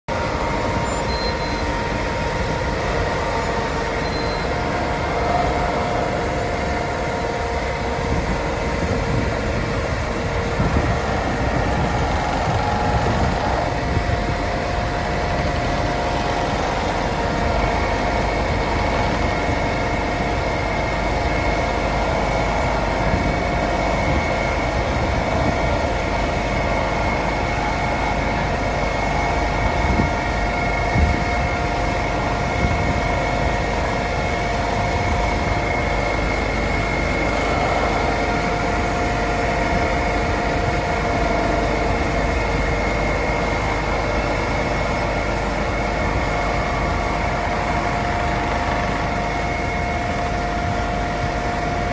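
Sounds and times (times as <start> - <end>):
diesel engine running under load: 0.0 - 51.9
steady whine: 0.0 - 51.9.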